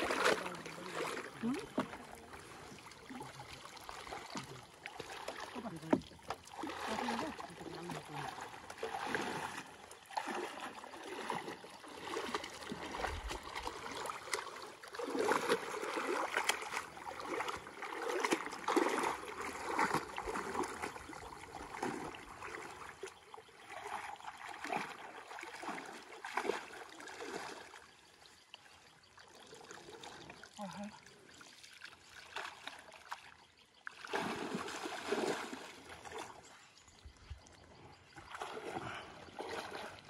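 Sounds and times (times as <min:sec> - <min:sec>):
water splashing and sloshing: 0:00.0 - 0:40.0.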